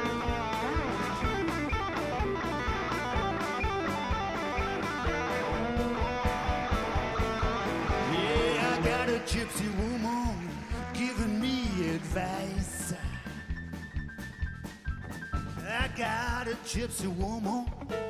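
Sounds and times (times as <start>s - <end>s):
sliding blues guitar lead: 0.0s - 14.8s
steady drum beat: 0.0s - 18.0s.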